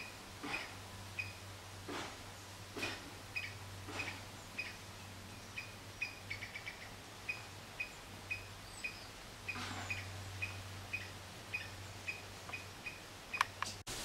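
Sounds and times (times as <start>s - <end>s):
small bird chirping: 0.0s - 1.4s, 3.3s - 13.6s.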